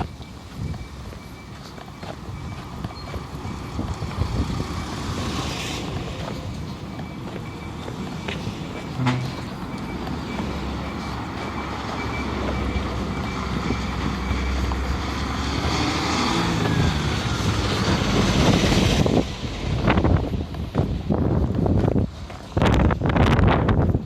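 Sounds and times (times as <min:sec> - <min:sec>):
vehicle passing: 0:00.0 - 0:22.9.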